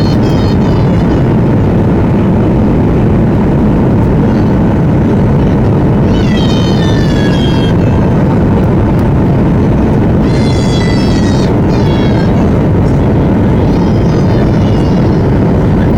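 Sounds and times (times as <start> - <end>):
aircraft cabin engine and airflow: 0.0 - 15.9.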